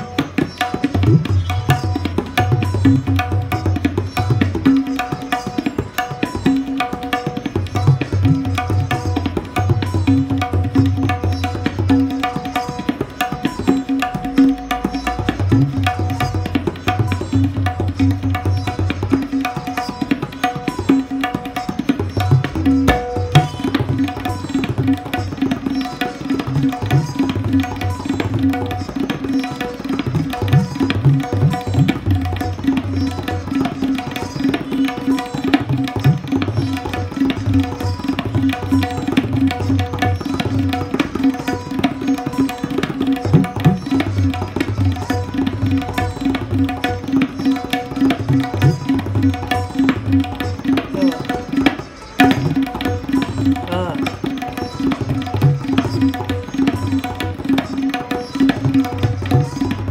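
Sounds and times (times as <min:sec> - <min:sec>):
fast tabla playing: 0:00.0 - 0:59.9.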